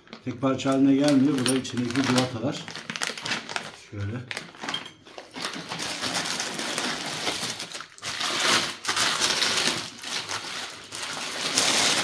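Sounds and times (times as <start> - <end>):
paper and plastic wrapping rustling: 0.0 - 12.0.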